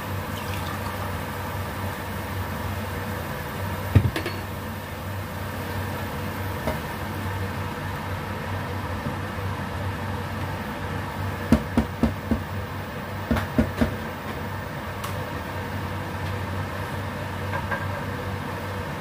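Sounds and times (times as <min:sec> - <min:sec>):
cooktop hum: 0:00.0 - 0:19.0.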